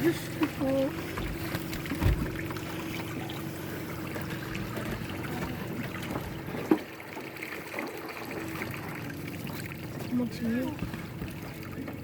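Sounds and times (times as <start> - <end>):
water trickling and sloshing: 0.0 - 12.0.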